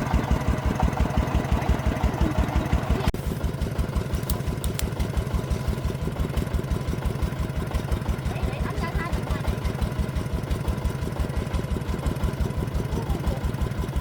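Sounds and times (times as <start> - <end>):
diesel engine thumping: 0.0 - 14.0.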